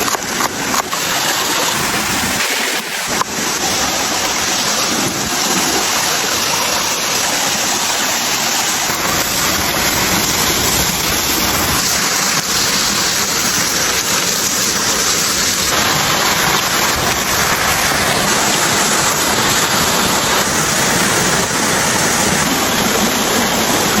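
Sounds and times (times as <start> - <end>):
steady rushing hiss: 0.0 - 24.0.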